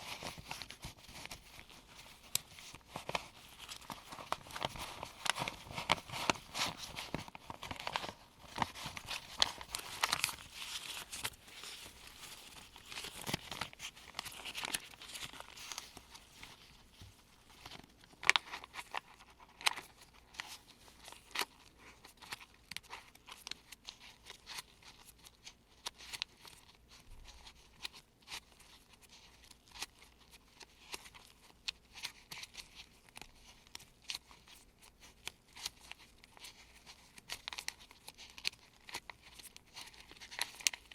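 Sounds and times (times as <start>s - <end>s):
paper bills rustling: 0.0s - 40.9s.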